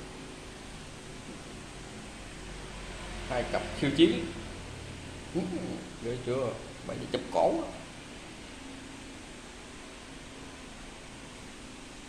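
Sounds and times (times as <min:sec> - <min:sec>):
background hiss: 0:00.0 - 0:12.0
faint low hum: 0:00.0 - 0:12.0.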